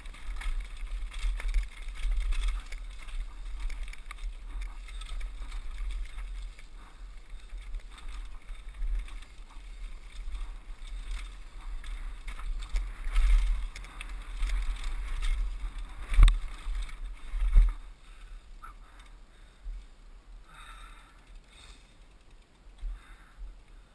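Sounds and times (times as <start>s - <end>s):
bike rattling: 0.0s - 23.9s.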